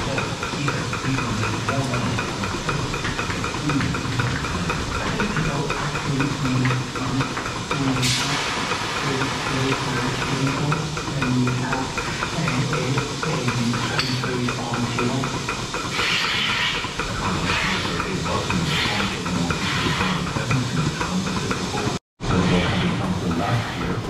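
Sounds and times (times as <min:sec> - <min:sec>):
low uneven hum: 0:00.0 - 0:24.0
pulsators clicking rapidly: 0:00.0 - 0:24.0
vacuum system hissing: 0:00.0 - 0:24.0.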